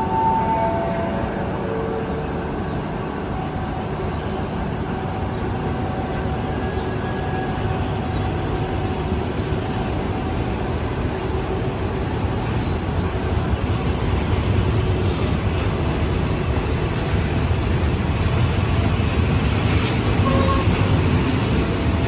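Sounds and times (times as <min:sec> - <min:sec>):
diesel train rumbling: 0:00.0 - 0:22.0.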